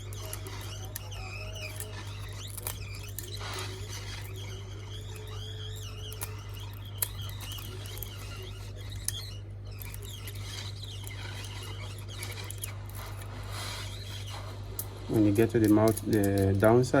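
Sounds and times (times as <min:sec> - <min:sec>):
steady low hum: 0:00.0 - 0:17.0
tool scraping glass: 0:00.0 - 0:17.0.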